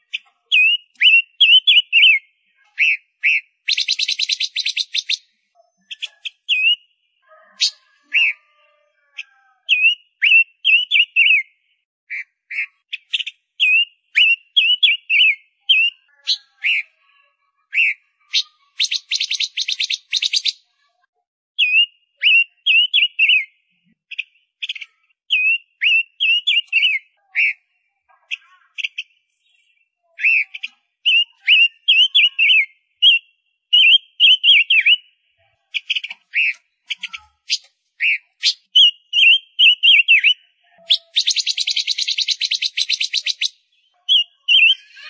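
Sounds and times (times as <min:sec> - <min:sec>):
finch chirping: 0:00.0 - 0:08.5, 0:09.1 - 0:17.0, 0:17.7 - 0:20.8, 0:21.6 - 0:27.7, 0:28.3 - 0:45.0.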